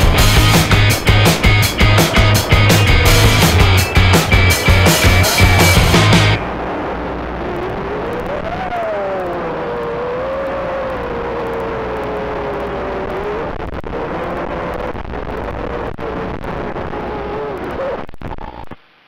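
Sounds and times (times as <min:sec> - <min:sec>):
drone motors whining: 0:00.0 - 0:15.8.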